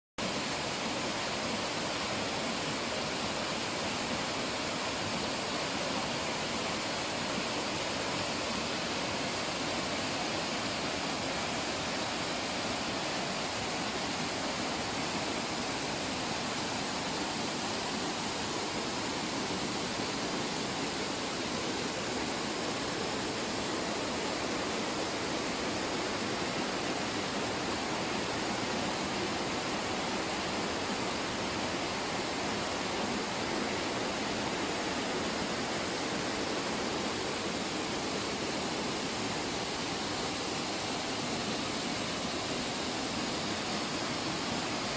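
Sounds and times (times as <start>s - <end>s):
waterfall rushing into pool: 0.2s - 44.9s.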